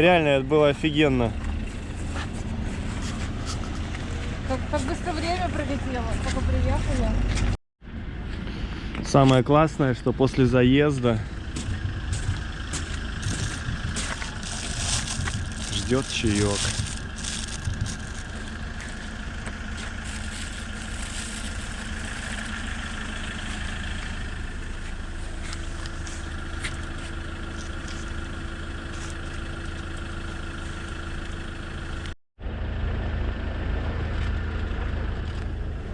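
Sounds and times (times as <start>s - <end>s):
motor vehicle rumbling: 0.0s - 35.9s.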